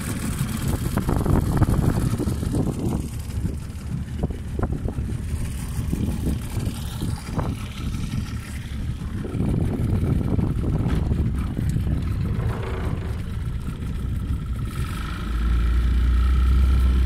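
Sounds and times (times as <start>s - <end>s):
outboard motor running: 0.0s - 17.0s
wind buffeting microphone: 0.0s - 17.0s.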